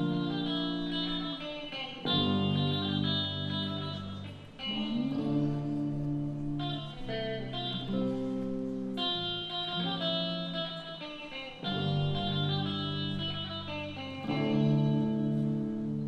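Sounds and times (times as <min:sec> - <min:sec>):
guitar playing sustained chords: 0:00.0 - 0:16.0.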